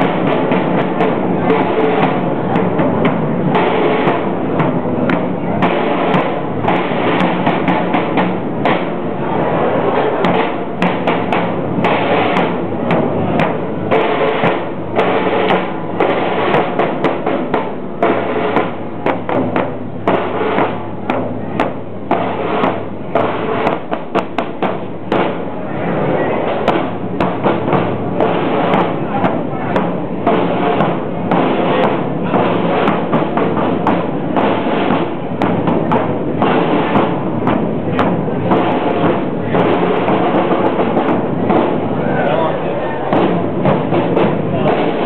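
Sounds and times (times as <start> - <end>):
parade drums marching cadence: 0.0 - 45.0.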